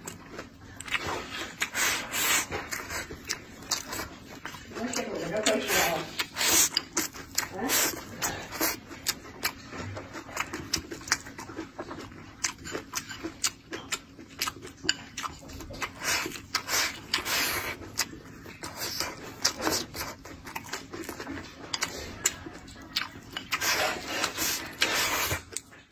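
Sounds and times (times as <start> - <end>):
wet chewing and smacking: 0.0 - 25.9.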